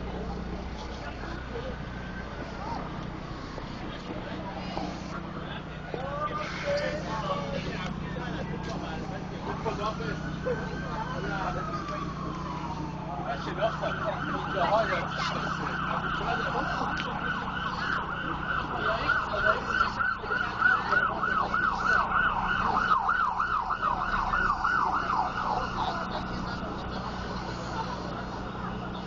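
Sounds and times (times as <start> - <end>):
emergency siren yelping: 0.0 - 29.0
steady low hum: 0.0 - 29.0.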